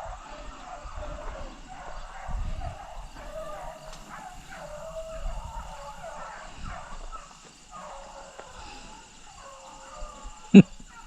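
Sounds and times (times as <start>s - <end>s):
distant hounds baying: 0.0s - 11.0s.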